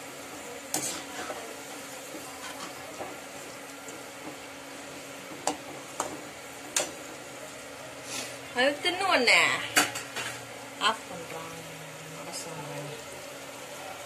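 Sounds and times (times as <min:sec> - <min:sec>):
deep-frying sizzle: 0:00.0 - 0:14.0.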